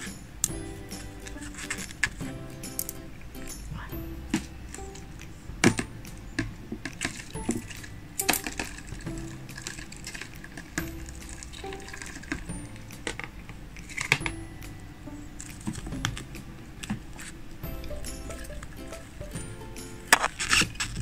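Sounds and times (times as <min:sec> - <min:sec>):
faint background music: 0:00.0 - 0:21.0.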